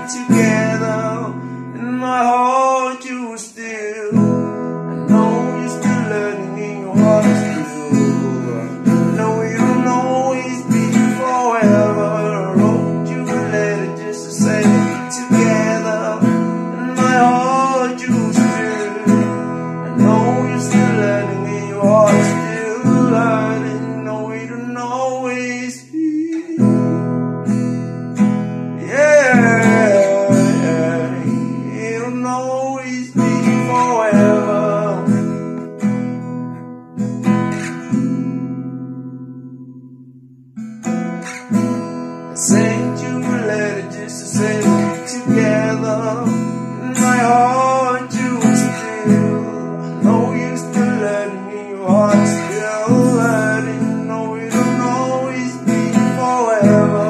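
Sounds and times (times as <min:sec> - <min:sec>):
man singing: 0:00.0 - 0:27.4, 0:28.7 - 0:36.2, 0:41.2 - 0:57.0
acoustic guitar strumming chords: 0:00.0 - 0:57.0.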